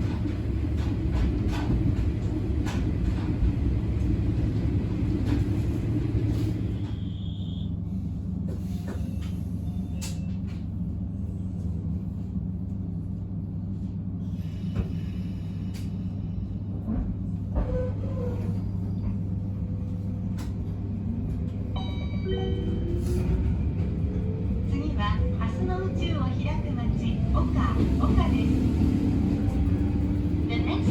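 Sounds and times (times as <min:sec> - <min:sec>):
train running low rumble: 0:00.0 - 0:30.9.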